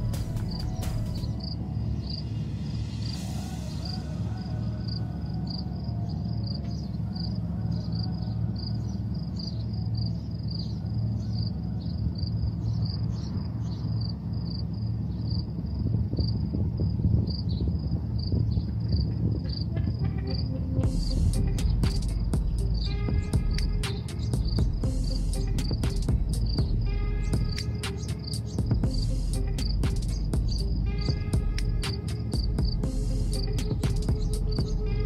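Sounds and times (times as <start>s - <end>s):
cricket chirping: 0.0s - 19.6s, 21.0s - 35.0s
low steady hum: 0.0s - 35.0s.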